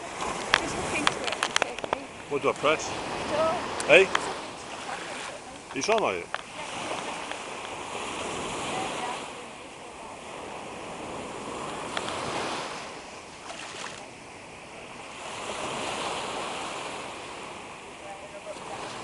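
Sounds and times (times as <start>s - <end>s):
sea surf washing onto beach: 0.0s - 19.0s.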